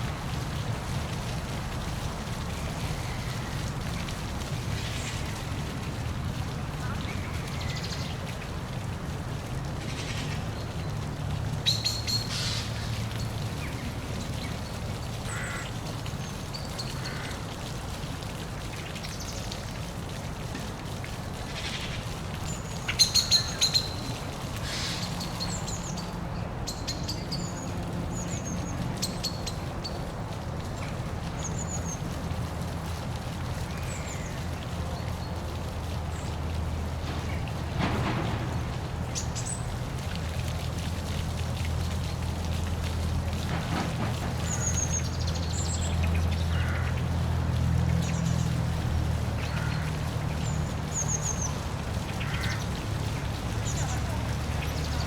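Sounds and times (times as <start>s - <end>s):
waterfall rumbling: 0.0s - 55.0s.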